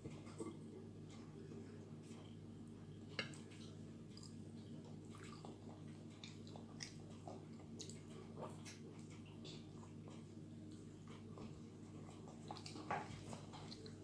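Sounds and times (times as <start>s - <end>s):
steady low hum: 0.0s - 14.0s
toddler chewing food: 2.0s - 14.0s.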